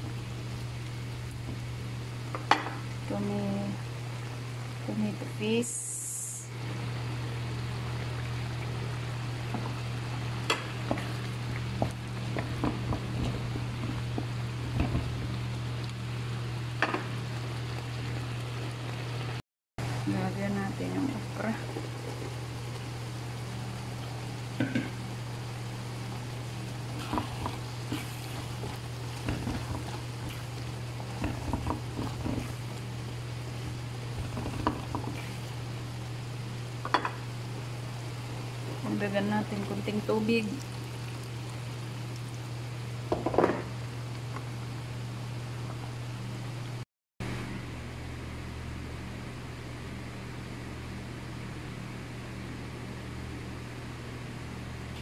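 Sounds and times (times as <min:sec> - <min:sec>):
food sizzling: 0:00.0 - 0:46.8
steady low hum: 0:00.0 - 0:55.0.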